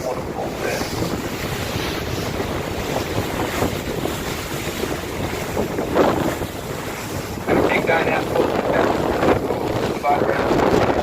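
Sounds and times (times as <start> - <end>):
boat noise: 0.0 - 11.0
wind buffeting microphone: 0.0 - 11.0.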